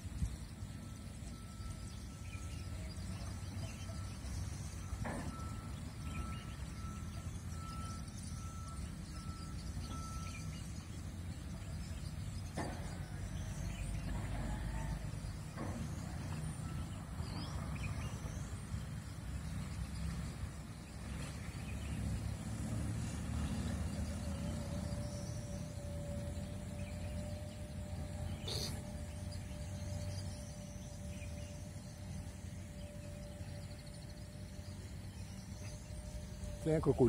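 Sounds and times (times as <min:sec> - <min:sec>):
faint bird chirps: 0:00.0 - 0:22.0, 0:23.1 - 0:37.0
distant road traffic rumble: 0:00.0 - 0:37.0.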